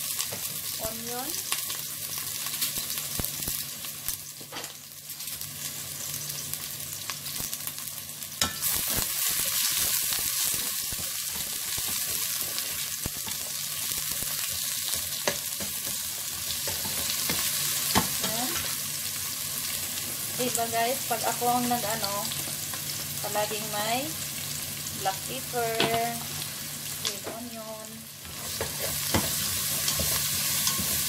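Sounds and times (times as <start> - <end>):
onions sizzling in hot oil: 0.0 - 31.0.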